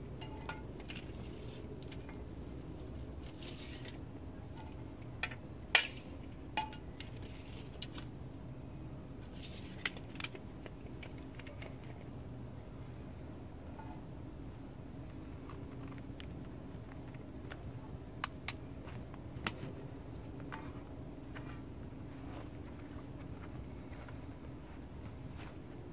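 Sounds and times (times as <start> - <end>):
low background hum: 0.0 - 25.9.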